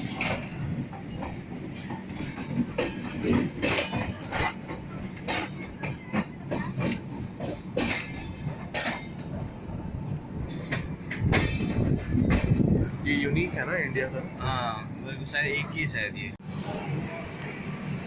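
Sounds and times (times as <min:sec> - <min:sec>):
wheels clacking over rail joints: 0:00.0 - 0:14.6
train rumbling on rails: 0:00.0 - 0:18.0.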